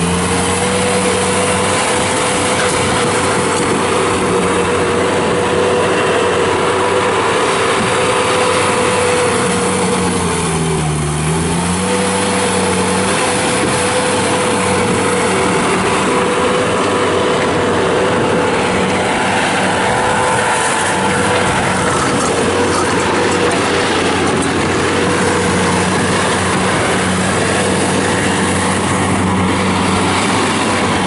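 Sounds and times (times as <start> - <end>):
diesel engine running at high speed: 0.0 - 31.0.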